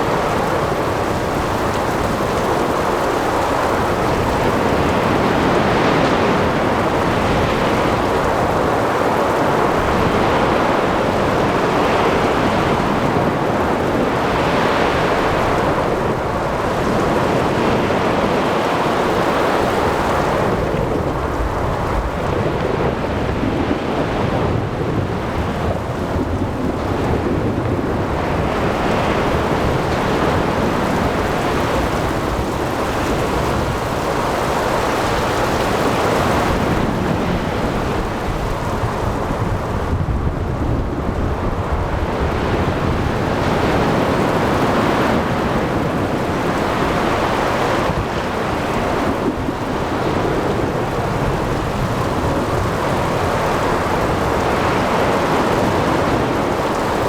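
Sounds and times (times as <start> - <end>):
heavy rain: 0.0 - 57.0
ocean waves: 0.0 - 57.0
wind: 0.0 - 57.0.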